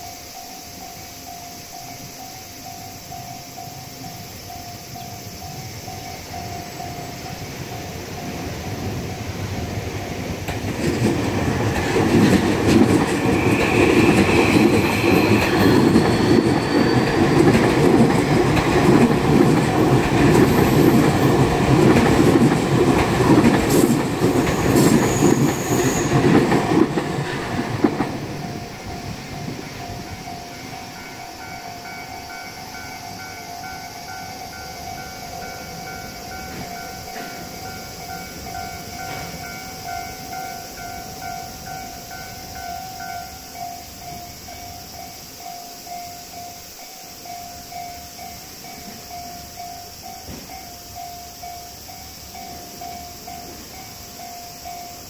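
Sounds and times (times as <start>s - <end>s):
crossing warning bell ringing: 0.0s - 11.1s, 11.7s - 55.0s
train wheels clattering on rails: 0.6s - 55.0s.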